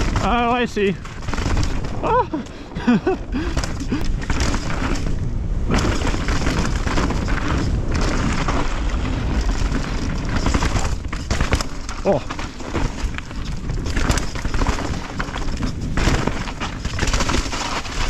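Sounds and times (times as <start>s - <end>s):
bike rattling and knocking: 0.0s - 18.0s
tyres rumbling on dirt: 0.0s - 18.0s
wind on microphone: 0.0s - 18.0s.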